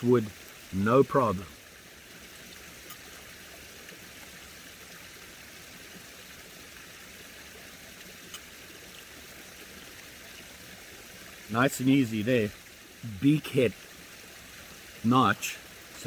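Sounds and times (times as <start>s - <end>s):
faint outdoor background hiss: 0.0s - 16.0s.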